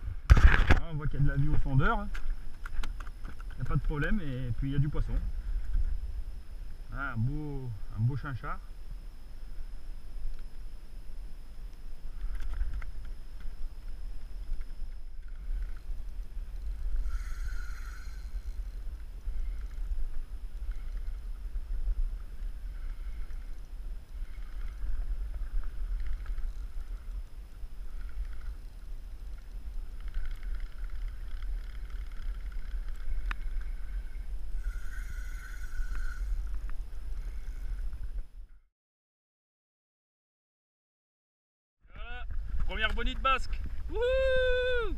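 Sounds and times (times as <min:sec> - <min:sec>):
wind rumbling on microphone: 0:00.0 - 0:38.6, 0:41.9 - 0:44.9
mechanical whirring of fishing reel: 0:01.4 - 0:38.3.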